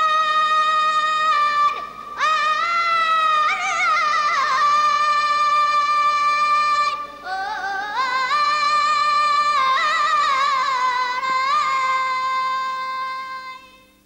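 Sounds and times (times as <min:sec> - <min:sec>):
high voice singing with trills: 0:00.0 - 0:14.0.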